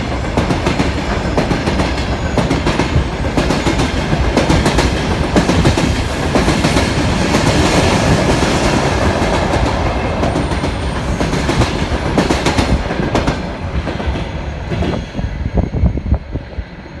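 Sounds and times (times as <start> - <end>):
train wheels clattering over rails: 0.0 - 15.6.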